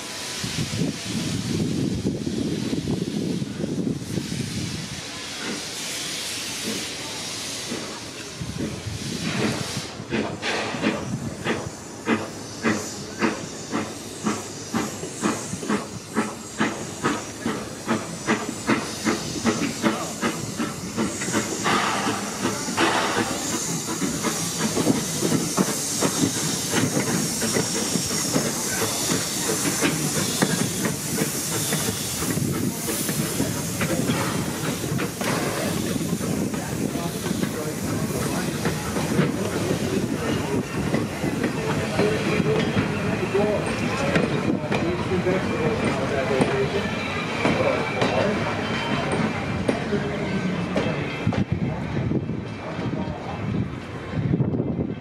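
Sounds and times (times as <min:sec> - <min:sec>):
gush of steam: 0:00.0 - 0:51.0
steam locomotive exhaust chuffs: 0:00.0 - 0:53.0
steam hissing: 0:00.0 - 0:54.2.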